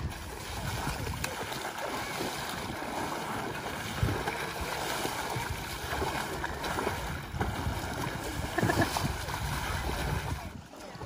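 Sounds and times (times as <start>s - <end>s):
swimmers splashing water: 0.0s - 11.0s.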